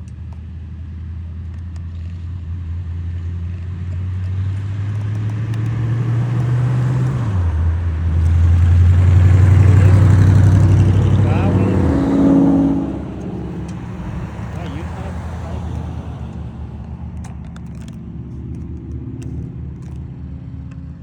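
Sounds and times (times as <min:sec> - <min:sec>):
car engine approaching: 0:00.0 - 0:21.0.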